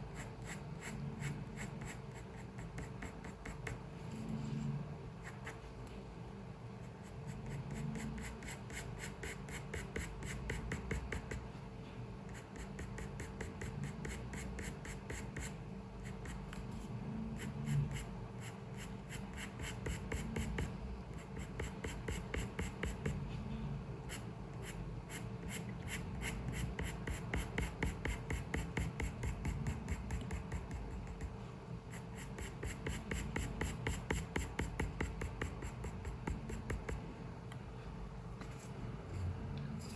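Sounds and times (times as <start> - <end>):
drawing tool scratching on paper: 0.0 - 4.4, 6.8 - 11.5, 12.3 - 23.2, 24.0 - 37.0
faint room hum: 0.0 - 39.9.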